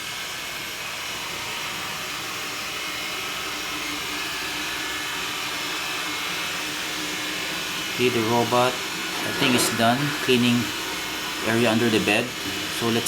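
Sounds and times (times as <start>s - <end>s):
robot vacuum whirring: 0.0s - 13.0s.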